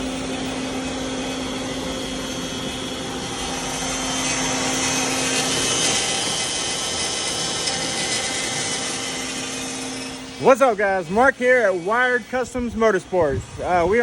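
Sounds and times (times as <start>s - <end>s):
cnc router machine hum: 0.0s - 14.0s
router bit cutting hiss: 0.0s - 14.0s.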